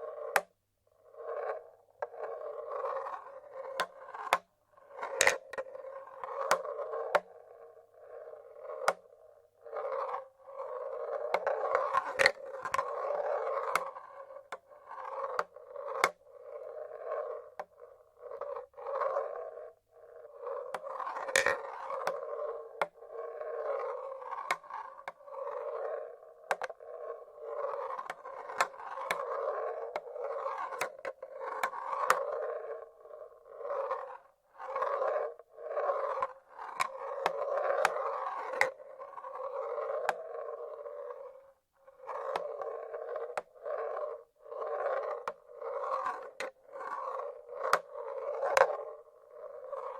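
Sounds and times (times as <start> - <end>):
marbles rolling on wooden tracks: 0.0 - 49.9.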